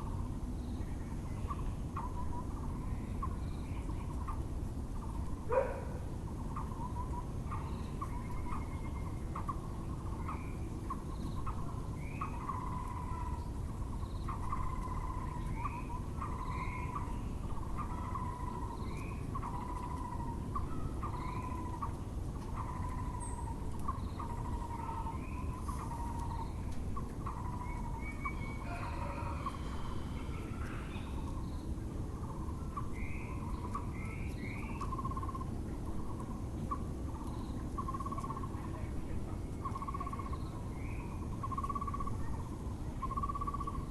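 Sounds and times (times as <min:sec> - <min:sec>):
bird hollow low notes: 0:00.0 - 0:43.9
low background rumble: 0:00.0 - 0:43.9
bird high chatter: 0:05.0 - 0:43.9.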